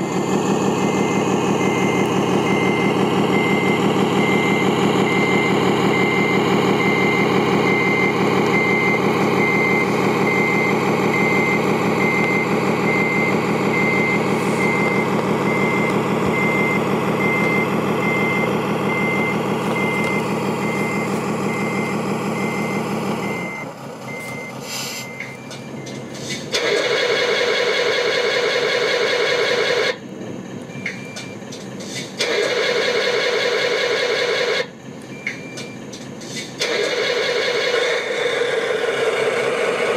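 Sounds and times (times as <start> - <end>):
reversing beeper: 0.0 - 31.6, 32.2 - 36.0, 36.6 - 39.9
loud engine sound: 0.0 - 39.9
toy diesel engine sound: 0.0 - 39.9.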